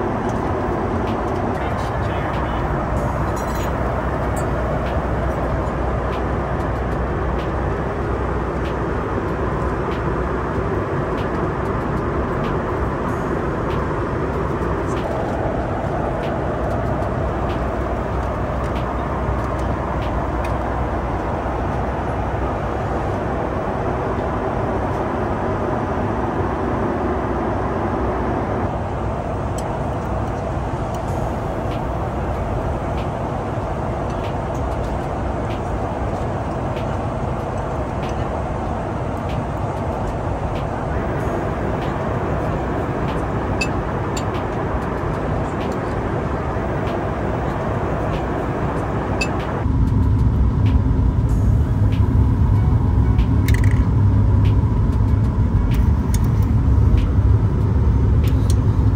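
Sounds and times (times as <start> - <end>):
airplane cabin engine rush: 0.0 - 58.9.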